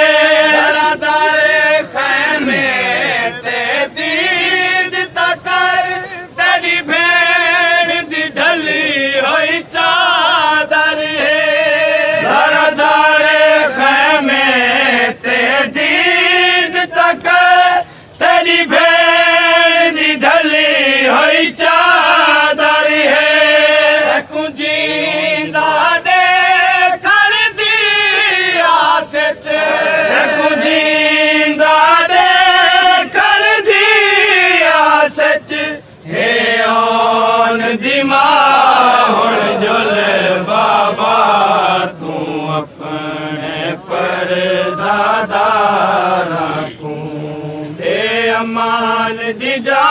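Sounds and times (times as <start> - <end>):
person chanting a lament: 0.0 - 49.9.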